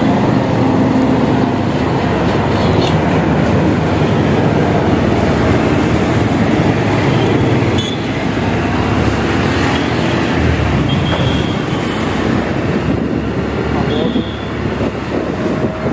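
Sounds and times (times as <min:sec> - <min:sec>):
moving vehicle rumble: 0:00.0 - 0:15.9.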